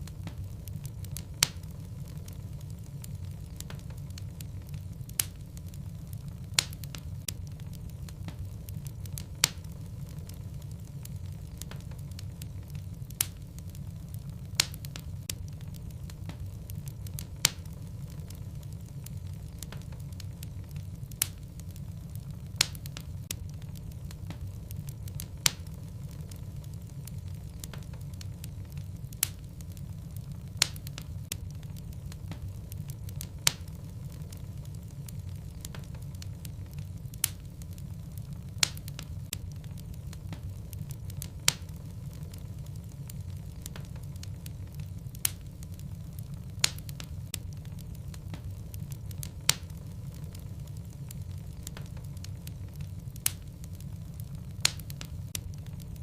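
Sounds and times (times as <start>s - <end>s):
logs crackling and popping: 0.0s - 56.0s
low rumble of fire: 0.0s - 56.0s.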